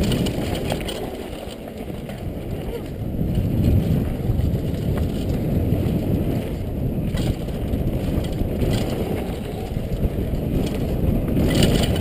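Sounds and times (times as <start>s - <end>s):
bike clacks: 0.0s - 12.0s
bike tyres rumbling on dirt trail: 0.0s - 12.0s
wind on microphone: 0.0s - 12.0s.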